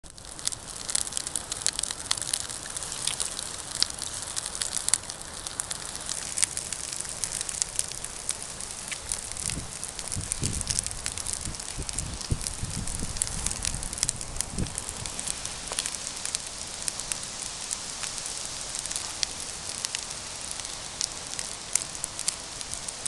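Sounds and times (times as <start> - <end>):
campfire crackling and popping: 0.0 - 23.0
fire hissing: 0.0 - 23.0.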